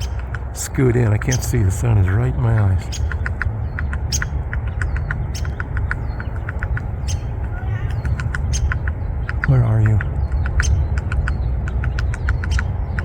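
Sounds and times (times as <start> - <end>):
low rumble: 0.0 - 13.0
woodpecker tapping on tree: 0.0 - 13.0.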